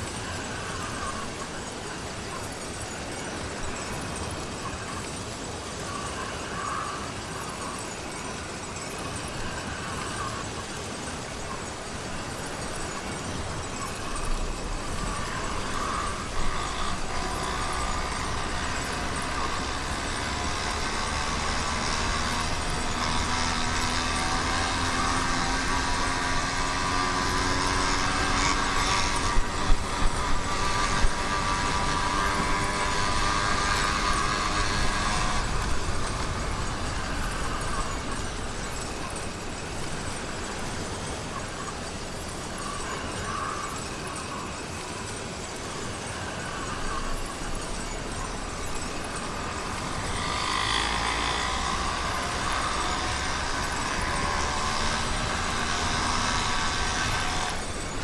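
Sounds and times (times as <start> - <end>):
two-stroke engine running: 0.0 - 43.9, 44.8 - 58.0
steady rushing noise: 0.0 - 58.0.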